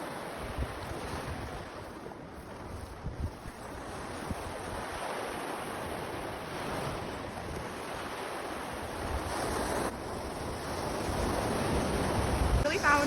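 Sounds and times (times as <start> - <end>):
waves breaking on rocky beach: 0.0 - 13.0
wind buffeting microphone: 0.3 - 13.0.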